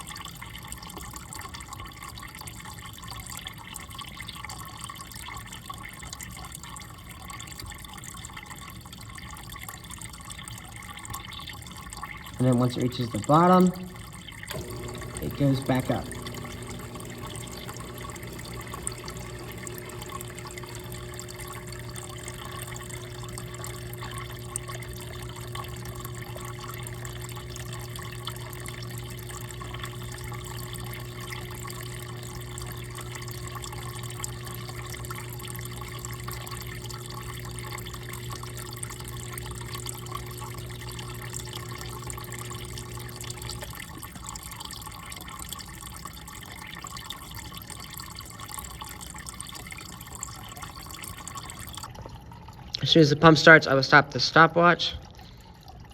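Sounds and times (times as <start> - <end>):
water pouring into container: 0.0 - 55.9
water pump hum: 0.0 - 55.9.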